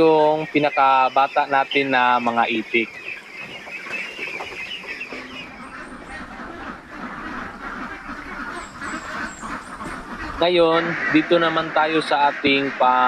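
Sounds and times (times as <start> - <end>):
ducklings peeping: 0.0 - 13.0.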